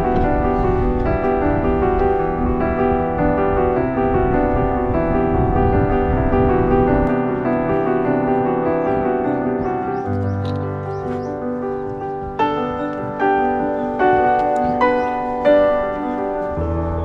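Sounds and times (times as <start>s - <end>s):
background piano music: 0.0s - 17.0s.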